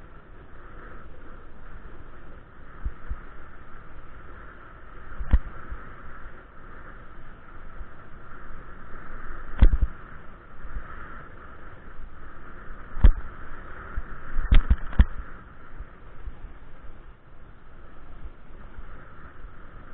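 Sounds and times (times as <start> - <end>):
bike riding noise: 0.0 - 19.9.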